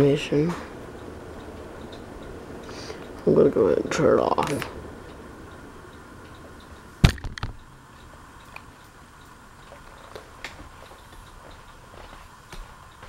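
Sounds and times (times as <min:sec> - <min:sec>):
ceiling fan coasting down: 0:00.0 - 0:13.0
light ticks: 0:00.5 - 0:03.3, 0:04.4 - 0:06.9, 0:07.6 - 0:13.0.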